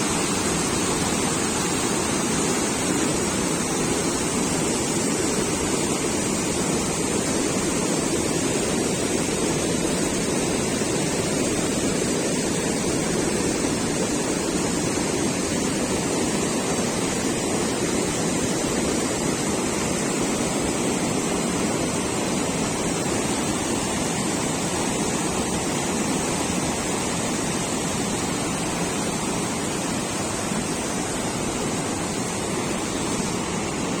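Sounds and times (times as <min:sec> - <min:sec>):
water rushing: 0:00.0 - 0:34.0.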